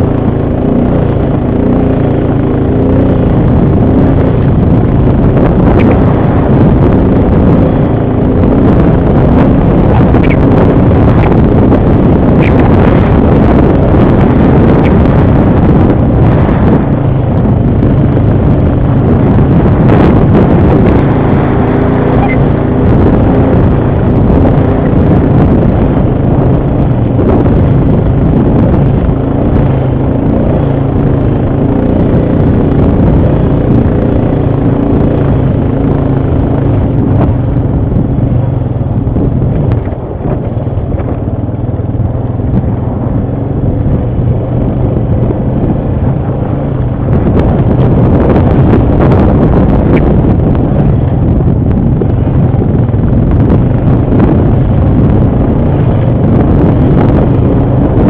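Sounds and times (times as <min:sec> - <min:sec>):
atv engine running: 0:00.0 - 0:58.0
rough rumble over terrain: 0:00.0 - 0:58.0.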